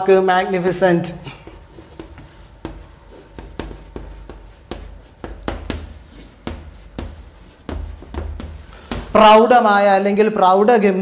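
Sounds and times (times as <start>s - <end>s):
chalk tapping and scraping: 0.6s - 9.5s.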